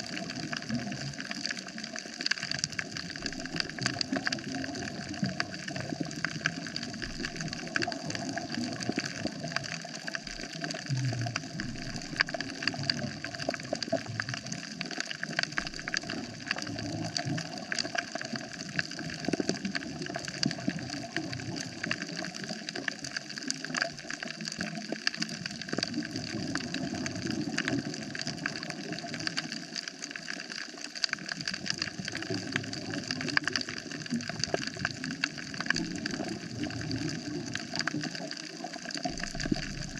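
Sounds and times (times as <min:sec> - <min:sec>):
crackle of tiny clicks: 0:00.0 - 0:39.9.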